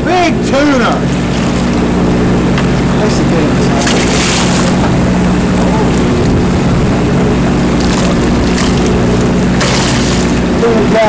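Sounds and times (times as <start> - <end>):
boat engine droning: 0.0 - 11.0
water noise: 0.0 - 11.0
wind: 0.0 - 11.0.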